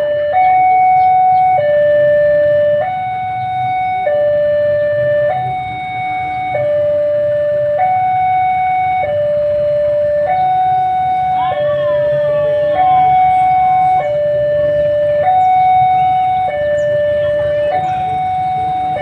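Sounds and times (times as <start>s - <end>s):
two-tone level-crossing alarm: 0.0s - 19.0s.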